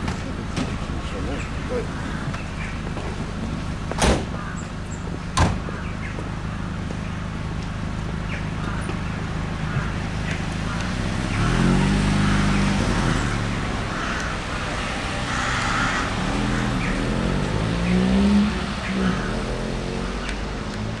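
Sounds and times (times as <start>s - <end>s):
car engine driving off: 0.0s - 21.0s.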